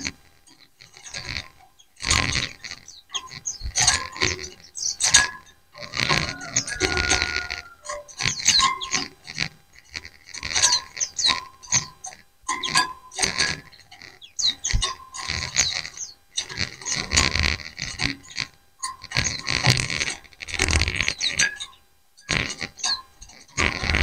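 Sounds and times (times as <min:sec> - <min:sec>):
birds chirping and twittering: 0:00.0 - 0:24.0.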